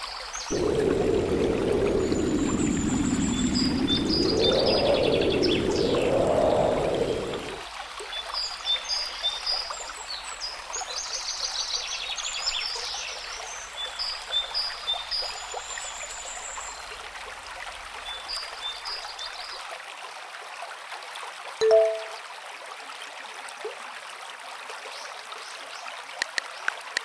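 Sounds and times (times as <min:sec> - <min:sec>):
stream water running: 0:00.0 - 0:27.0.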